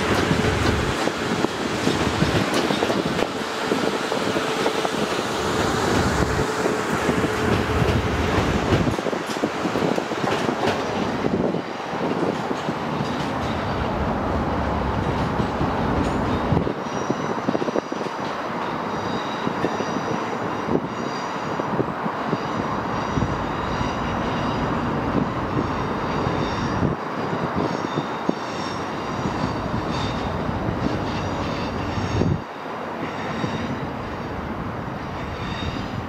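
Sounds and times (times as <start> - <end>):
train rumble and rush: 0.0 - 36.0.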